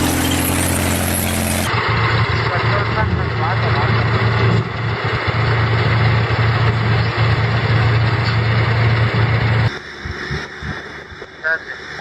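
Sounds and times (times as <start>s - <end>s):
heavy vehicle engine humming: 0.0s - 12.0s.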